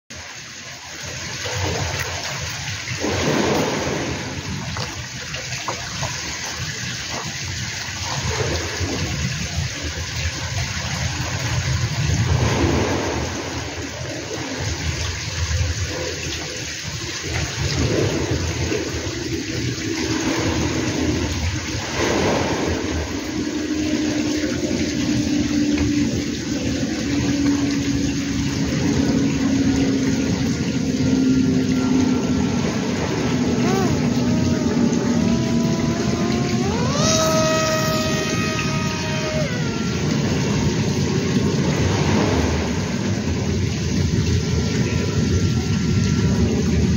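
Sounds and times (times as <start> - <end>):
faint steady hum: 0.2 - 46.9.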